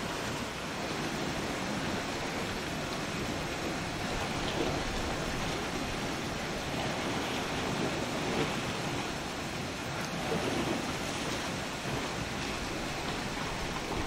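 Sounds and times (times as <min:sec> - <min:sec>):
surf against rocky shore: 0:00.0 - 0:14.0.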